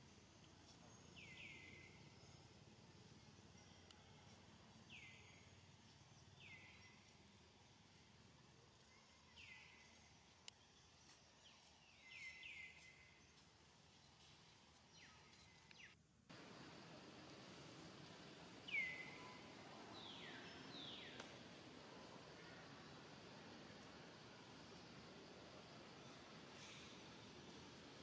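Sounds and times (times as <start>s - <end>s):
background hiss: 0.0s - 28.0s.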